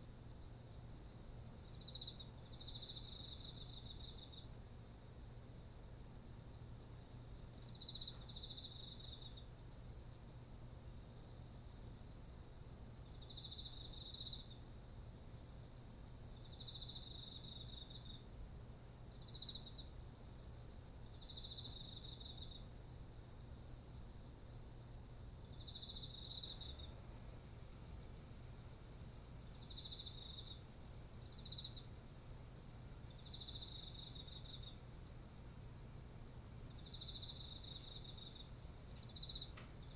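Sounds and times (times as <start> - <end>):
high continuous insect trill: 0.0 - 39.9.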